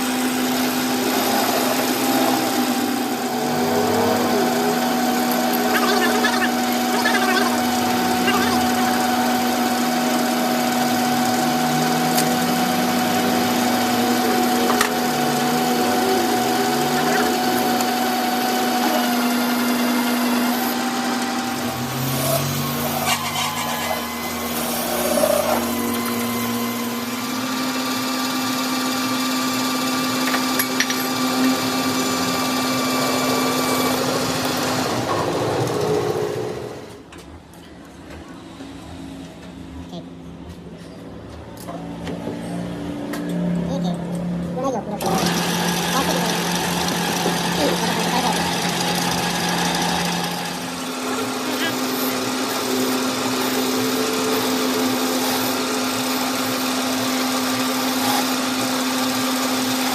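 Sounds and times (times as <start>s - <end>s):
workshop machine motor humming: 0.0s - 37.1s, 38.6s - 59.9s.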